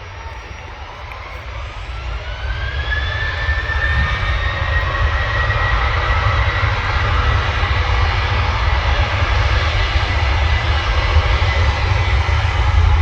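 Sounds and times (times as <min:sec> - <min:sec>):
jet engines spooling up: 0:00.0 - 0:13.0.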